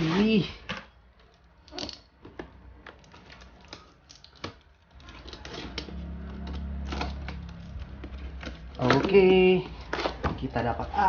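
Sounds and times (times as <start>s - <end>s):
packaging clicks and rustles: 0.0s - 11.0s.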